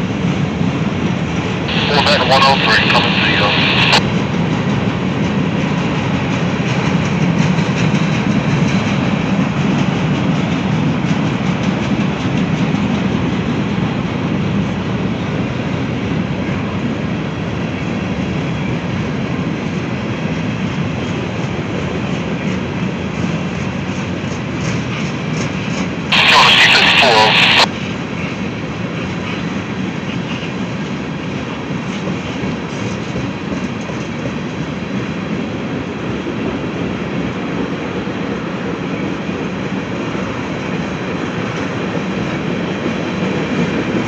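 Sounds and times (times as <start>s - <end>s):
train wheels rumbling on rails: 4.0s - 26.1s, 27.7s - 44.0s.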